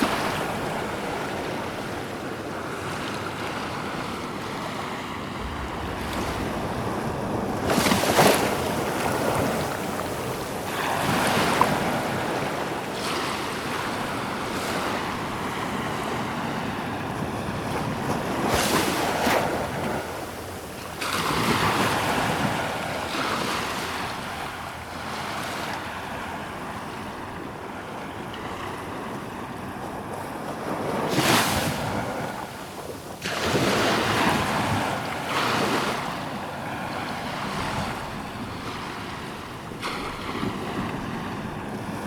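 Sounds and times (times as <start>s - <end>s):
ocean waves crashing: 0.0s - 27.3s, 30.9s - 42.0s.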